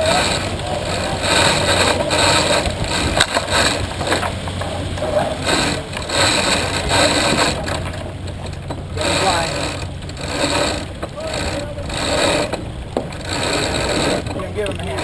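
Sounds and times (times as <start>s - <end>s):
low rumble: 0.0s - 15.0s
water rushing past hull: 0.0s - 15.0s
wind buffeting microphone: 0.0s - 15.0s.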